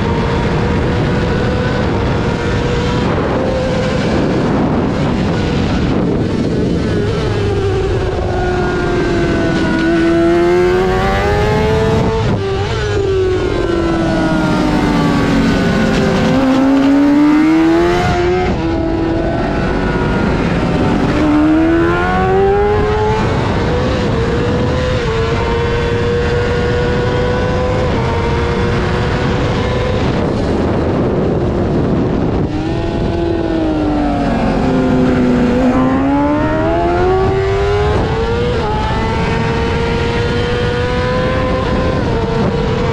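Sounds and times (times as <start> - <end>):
racing motorcycle engine at high revs: 0.0 - 42.9.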